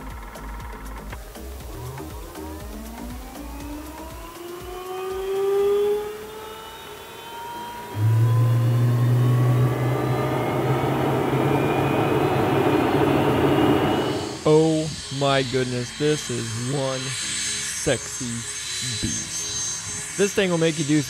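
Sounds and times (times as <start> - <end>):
jet engine spooling up: 1.4 - 21.0.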